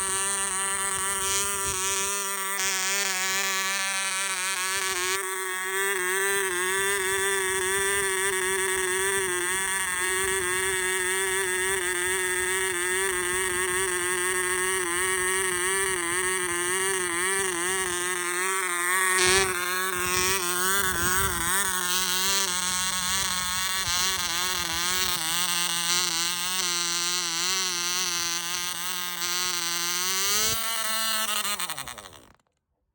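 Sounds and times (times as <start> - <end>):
model diesel engine buzzing: 0.0 - 32.4.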